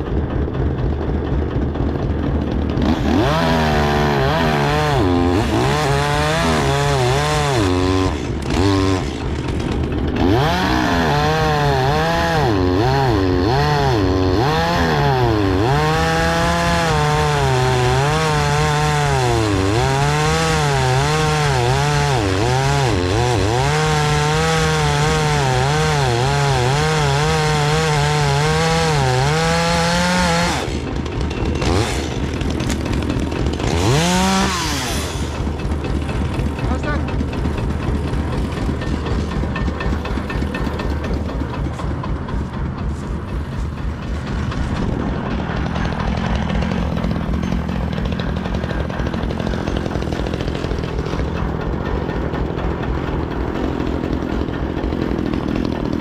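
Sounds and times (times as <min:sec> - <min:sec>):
chainsaw cutting through wood: 0:00.0 - 0:56.0.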